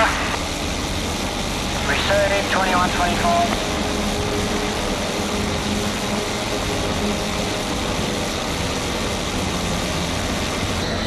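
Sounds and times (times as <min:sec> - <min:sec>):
pump engine running: 0:00.0 - 0:11.0.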